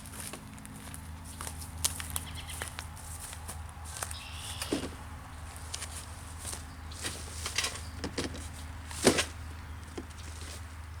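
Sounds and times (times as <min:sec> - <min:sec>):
sticks and leaves snapping and rustling: 0:00.2 - 0:11.0.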